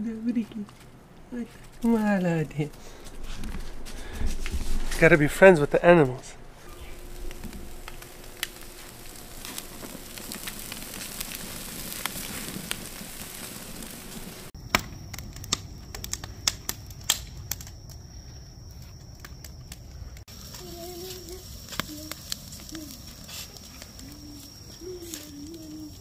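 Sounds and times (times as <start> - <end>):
fire crackling and popping: 0.3 - 26.0.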